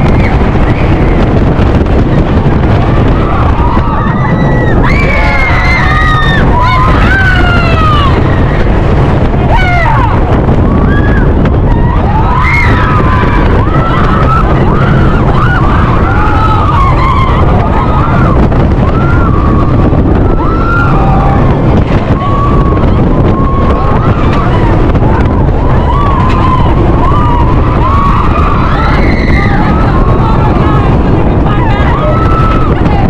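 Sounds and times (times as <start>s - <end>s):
riders yelling and screaming: 0.0s - 33.0s
roller coaster train rumble: 0.0s - 33.0s
wind rushing over microphone: 0.0s - 33.0s.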